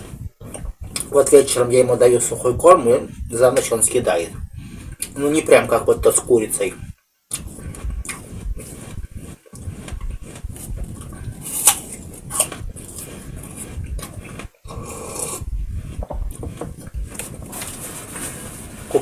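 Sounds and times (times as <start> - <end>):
chewing crunchy apple: 0.0 - 17.8.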